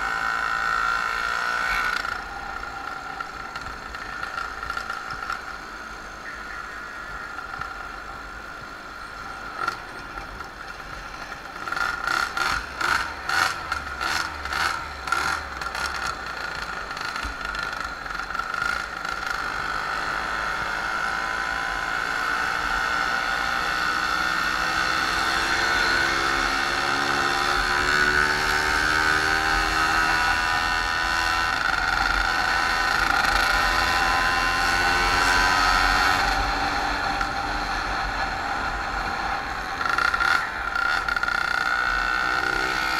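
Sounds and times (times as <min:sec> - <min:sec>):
moped engine running: 0:00.0 - 0:21.3, 0:24.7 - 0:42.9.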